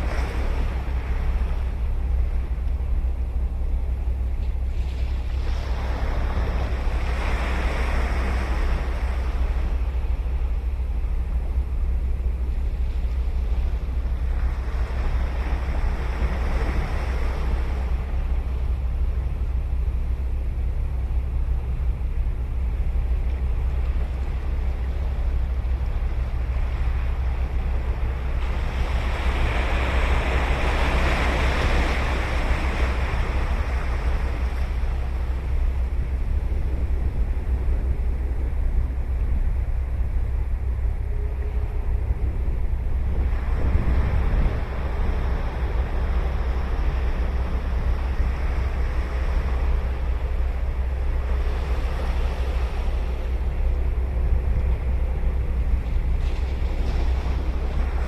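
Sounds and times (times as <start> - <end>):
ocean waves breaking on beach: 0.0 - 2.6, 4.6 - 19.9, 23.6 - 41.3, 42.1 - 58.0
steady low rumble: 0.0 - 58.0.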